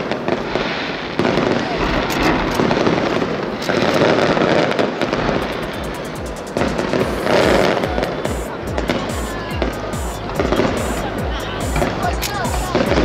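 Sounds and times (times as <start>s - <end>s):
firework crackling: 0.0s - 13.0s
firework shells bursting: 0.0s - 13.0s.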